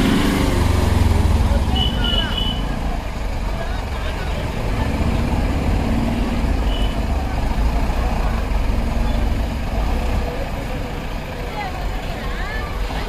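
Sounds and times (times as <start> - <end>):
bus and truck engines rumbling: 0.0 - 13.0.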